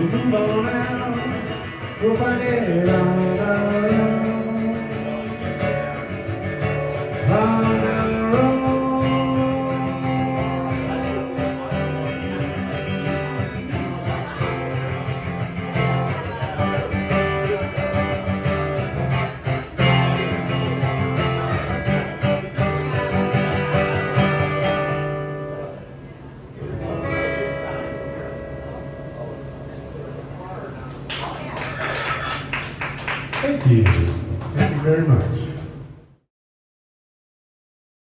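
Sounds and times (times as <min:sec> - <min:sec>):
guitar playing: 0:00.0 - 0:31.0.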